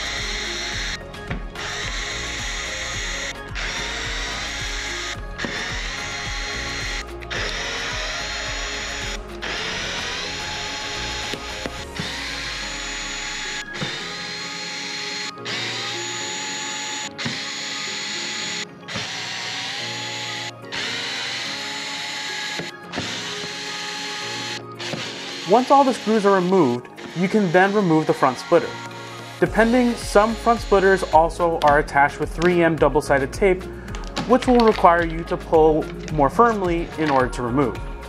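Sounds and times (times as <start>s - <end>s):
electric screwdriver spinning: 0.0s - 32.5s, 34.0s - 36.2s.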